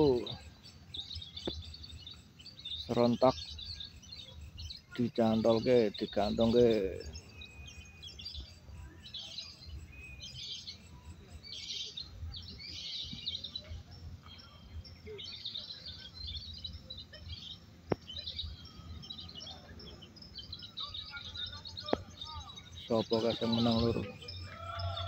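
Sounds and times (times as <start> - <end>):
songbirds chattering trills: 0.0 - 25.0.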